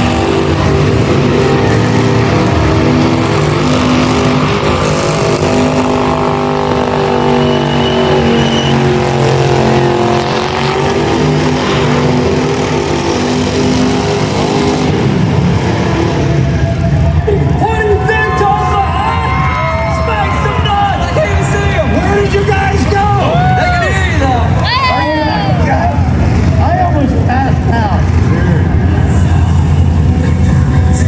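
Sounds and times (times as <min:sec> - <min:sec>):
car engine revving high: 0:00.0 - 0:31.0.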